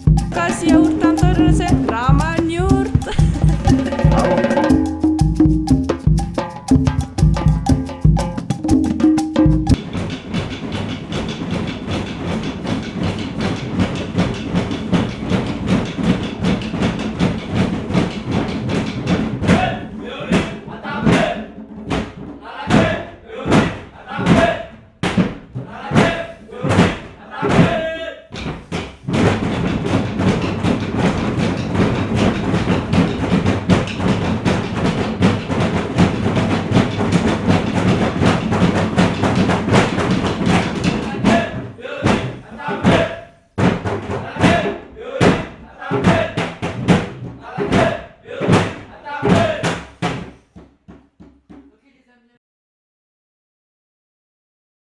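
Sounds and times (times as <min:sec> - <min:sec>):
shaken hand percussion beat: 0:00.0 - 0:27.7, 0:28.6 - 0:51.6.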